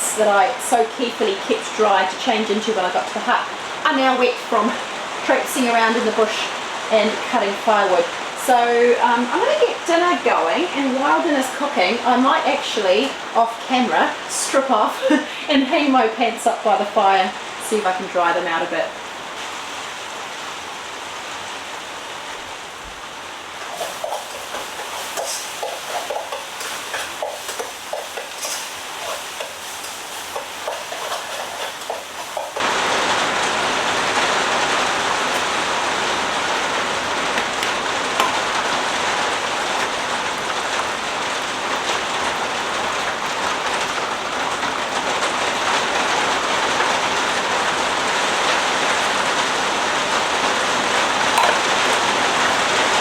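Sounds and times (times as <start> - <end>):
rain on a roof: 0.0 - 53.0.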